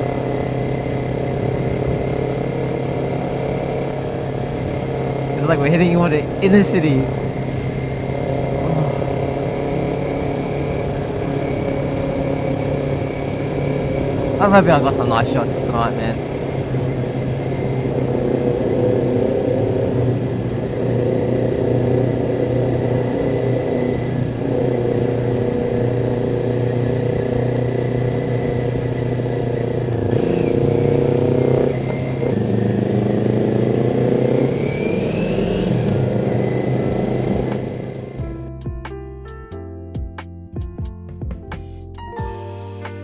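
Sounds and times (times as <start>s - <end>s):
motorcycle engine running: 0.0s - 38.5s.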